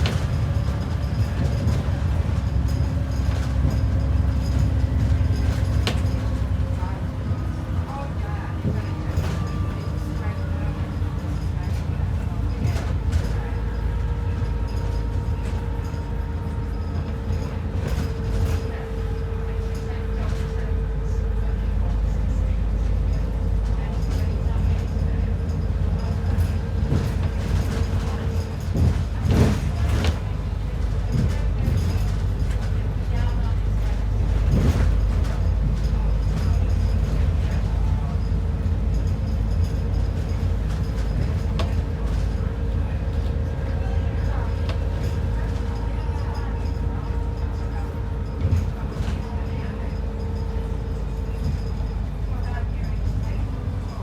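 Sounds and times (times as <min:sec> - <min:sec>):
bus engine rumble: 0:00.0 - 0:54.0.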